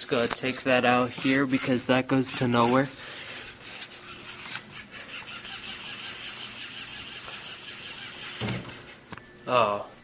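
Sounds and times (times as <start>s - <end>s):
servo motors whirring: 0.2s - 9.0s.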